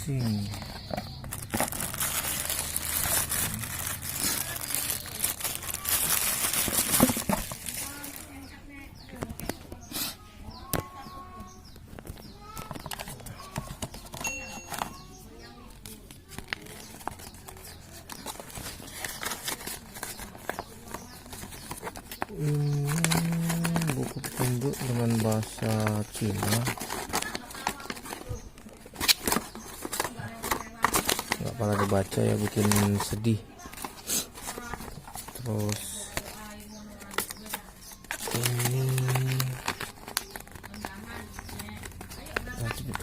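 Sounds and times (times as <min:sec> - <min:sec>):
packaging crinkling and rustling: 0:00.1 - 0:08.4, 0:15.8 - 0:43.0.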